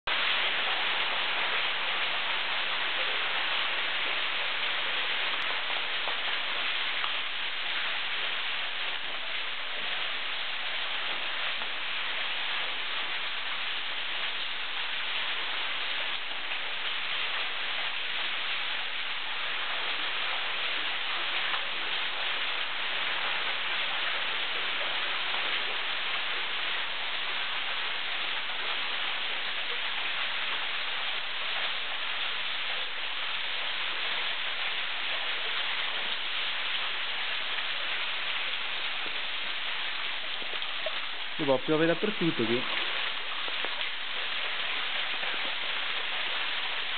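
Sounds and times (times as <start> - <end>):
waterfall splashing into pool: 0.1 - 46.9.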